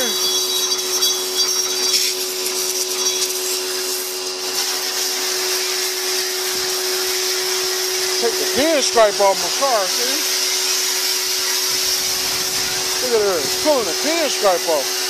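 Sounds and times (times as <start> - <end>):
pressure washer motor hum: 0.0 - 15.0
water jet hissing on a car: 0.0 - 15.0.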